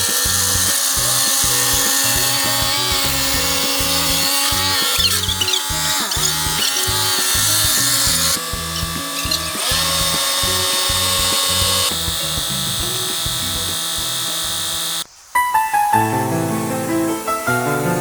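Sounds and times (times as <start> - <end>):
power drill whirring: 0.0 - 15.1
background music: 0.0 - 18.0.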